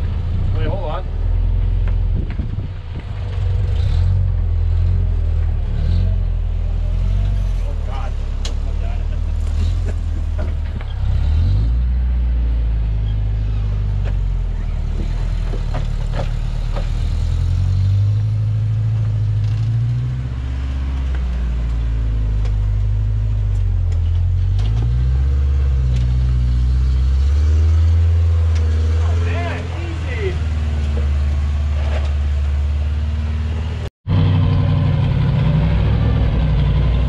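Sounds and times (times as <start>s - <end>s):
engine revving: 0.0s - 37.0s.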